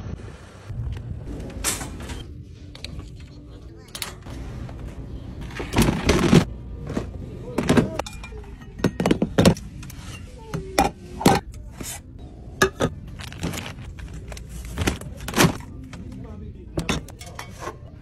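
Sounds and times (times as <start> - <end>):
low store hum: 0.0 - 18.0.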